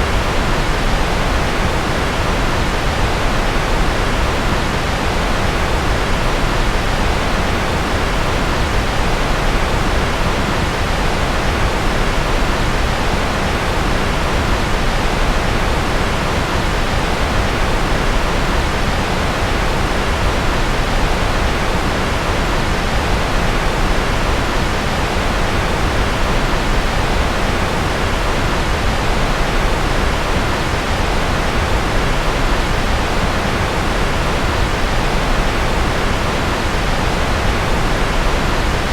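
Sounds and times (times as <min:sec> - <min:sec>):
steady white noise: 0:00.0 - 0:38.9.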